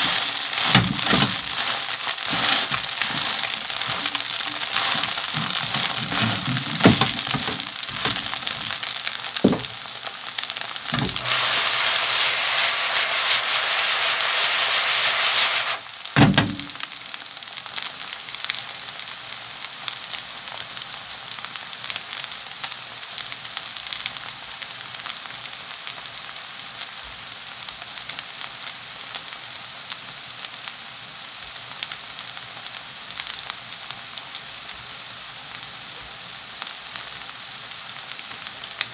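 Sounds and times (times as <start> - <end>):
batter sizzling in oil: 0.0 - 38.9.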